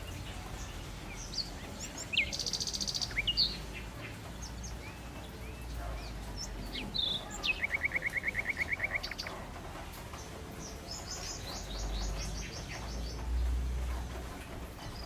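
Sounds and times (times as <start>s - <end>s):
bird trill: 0.0s - 13.5s
birds singing and calling: 0.0s - 15.0s.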